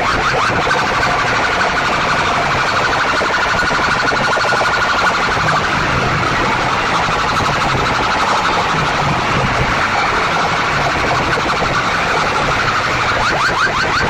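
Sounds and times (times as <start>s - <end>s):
siren-like warbling from loudspeakers: 0.0s - 14.0s.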